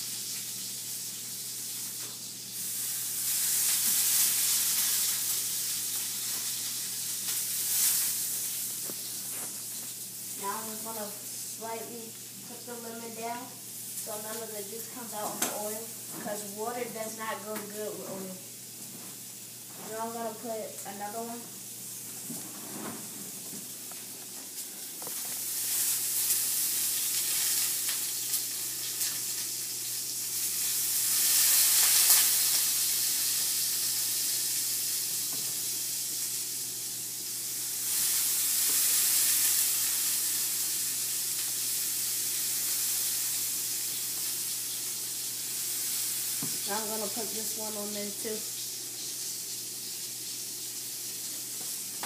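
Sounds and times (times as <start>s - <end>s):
hot oil sizzling in a pan: 0.0s - 22.5s, 23.3s - 52.0s.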